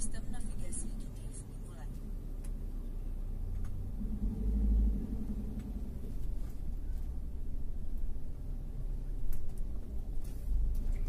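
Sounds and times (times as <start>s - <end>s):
car road rumble inside cabin: 0.0s - 11.0s
low hum: 0.0s - 11.0s.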